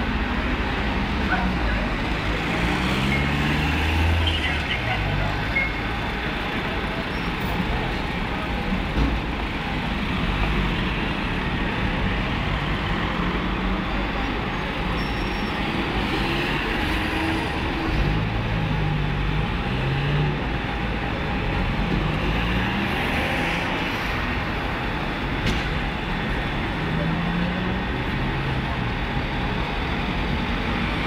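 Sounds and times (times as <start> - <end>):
street noise: 0.0 - 31.0.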